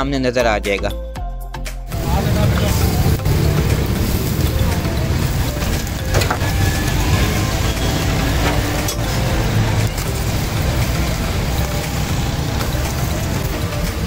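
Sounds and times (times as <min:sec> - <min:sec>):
griddle cooking sounds: 0:01.9 - 0:14.0
road traffic rumble: 0:01.9 - 0:14.0.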